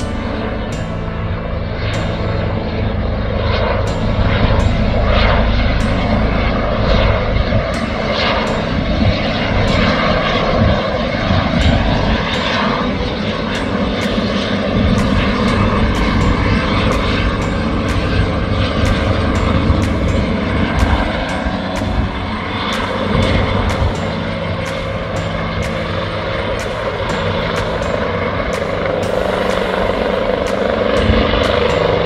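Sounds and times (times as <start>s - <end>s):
helicopter hovering: 0.0s - 32.0s.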